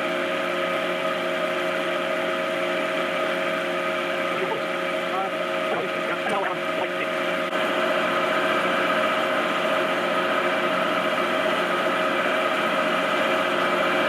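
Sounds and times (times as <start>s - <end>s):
machine motor humming and whining: 0.0s - 14.0s.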